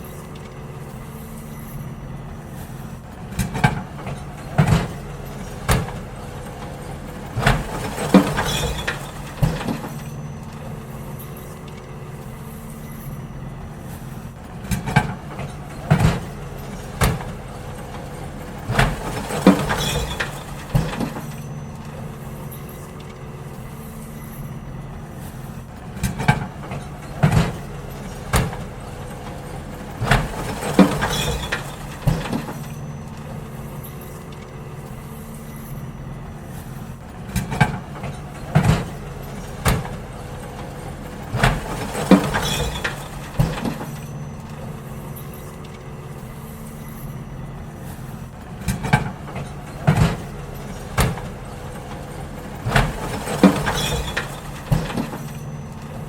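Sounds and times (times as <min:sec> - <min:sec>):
bins banging and clattering: 0:00.0 - 0:56.0
garbage truck engine running: 0:00.0 - 0:56.0.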